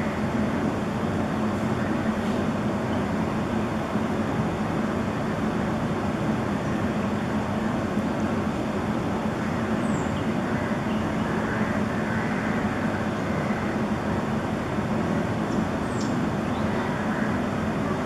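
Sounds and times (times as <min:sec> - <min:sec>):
steady rumbling background noise: 0:00.0 - 0:18.0.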